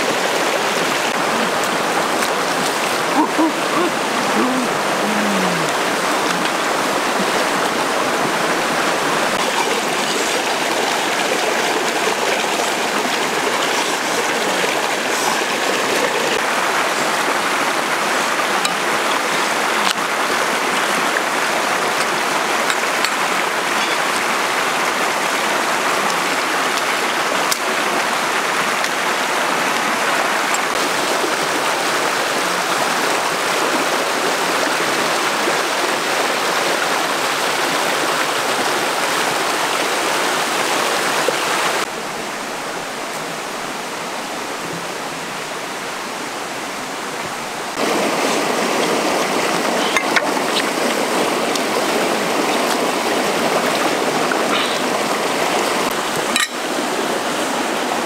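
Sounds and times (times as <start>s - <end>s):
stream water over rocks: 0.0s - 58.0s.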